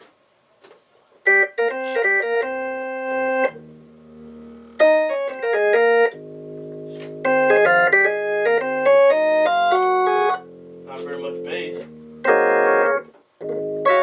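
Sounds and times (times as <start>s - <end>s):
organ chords: 1.3s - 14.0s.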